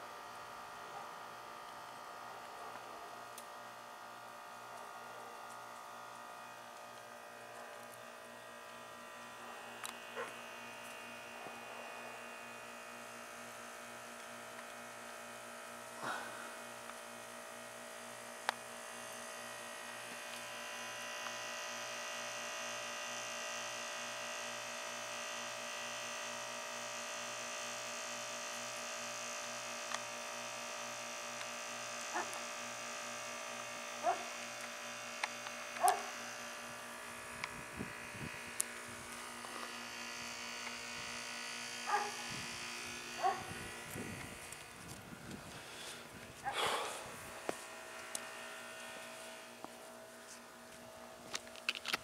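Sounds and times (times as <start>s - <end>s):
electrical buzz with low pulse: 0.0s - 51.7s.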